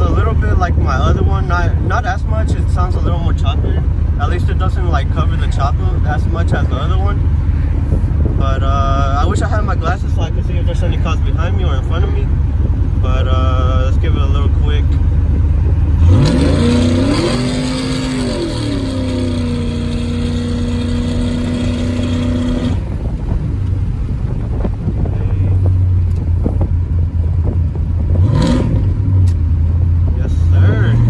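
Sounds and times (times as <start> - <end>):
engine exhaust under throttle: 0.0 - 31.0.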